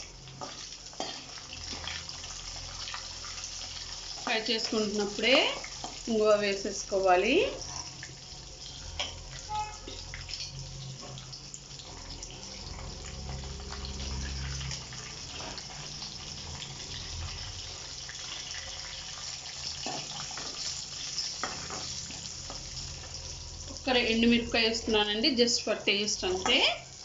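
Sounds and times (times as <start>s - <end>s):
hot oil sizzling: 0.0s - 27.0s.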